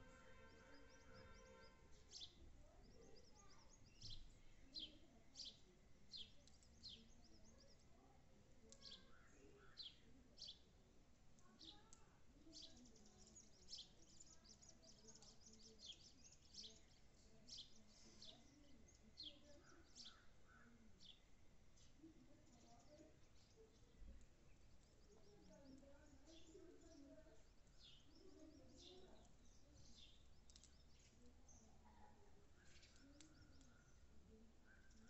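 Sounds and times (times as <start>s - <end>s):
sparrow chirping: 0.0s - 8.0s, 11.5s - 35.0s.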